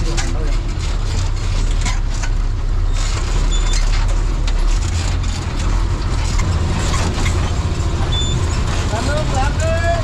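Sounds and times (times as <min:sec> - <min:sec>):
vehicle body rattling: 0:00.0 - 0:10.0
vehicle engine rumbling: 0:00.0 - 0:10.0.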